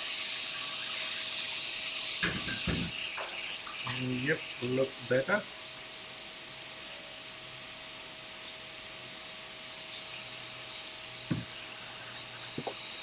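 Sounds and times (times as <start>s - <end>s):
equipment hiss with high whine: 0.0s - 13.0s.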